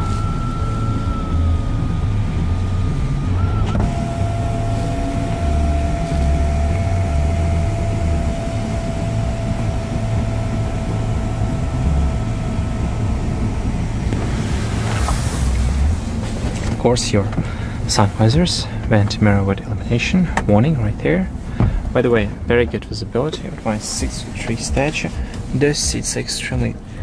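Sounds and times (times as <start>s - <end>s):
electric sunroof motor whine: 0.0s - 27.0s
low rumble: 0.0s - 27.0s.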